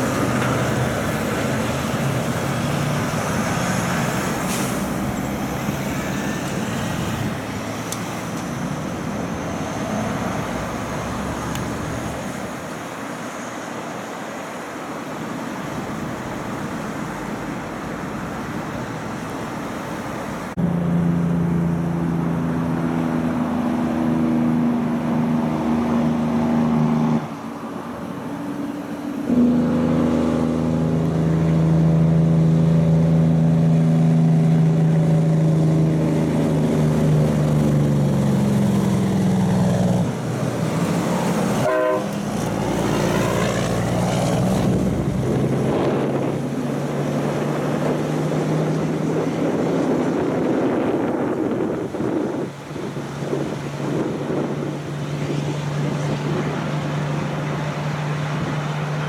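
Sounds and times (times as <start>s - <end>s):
diesel truck engine pulling: 0.0s - 13.7s, 15.6s - 59.0s.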